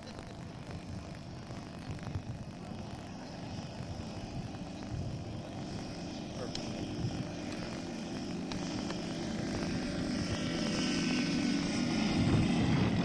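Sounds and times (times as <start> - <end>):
propellers whirring: 0.0 - 13.0
radial engine rumble: 0.0 - 13.0.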